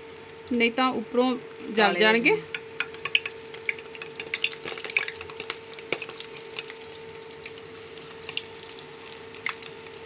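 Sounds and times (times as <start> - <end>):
faint steady hum: 0.0 - 10.0
food deep-frying in oil: 0.0 - 10.0.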